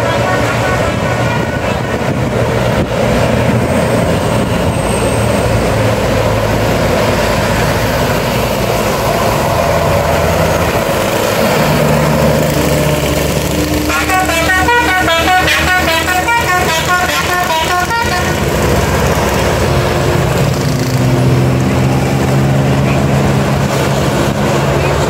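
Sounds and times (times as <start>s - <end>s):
buses passing: 0.0s - 25.0s
deep bus engine approaching: 0.0s - 25.0s.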